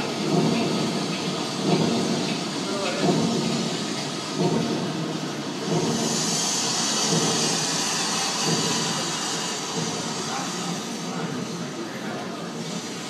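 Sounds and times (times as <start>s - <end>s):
steady mechanical rumble: 0.0s - 13.0s
steam hissing: 0.0s - 13.0s.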